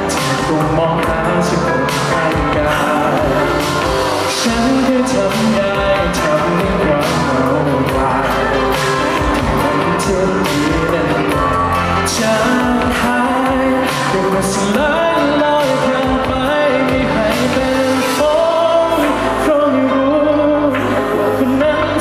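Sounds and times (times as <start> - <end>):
drum beat: 0.0 - 19.1
amplified instrumental accompaniment: 0.0 - 22.0
man singing pop song: 0.0 - 22.0.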